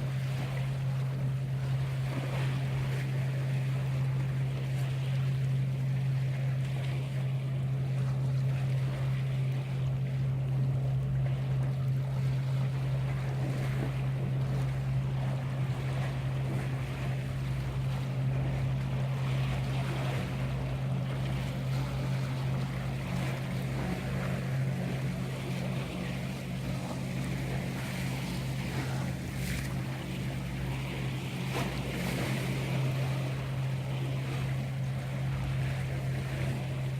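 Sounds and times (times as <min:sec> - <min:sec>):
boat engine humming: 0:00.0 - 0:36.9
sea water washing: 0:00.0 - 0:36.9
wind: 0:00.0 - 0:36.9.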